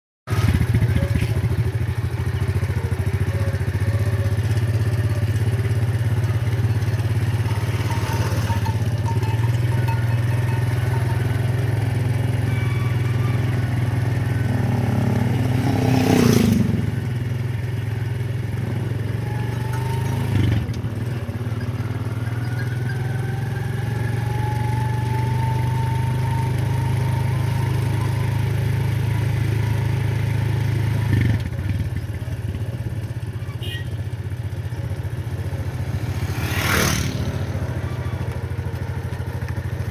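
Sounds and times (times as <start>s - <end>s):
engine droning: 0.3s - 33.4s, 34.0s - 39.9s.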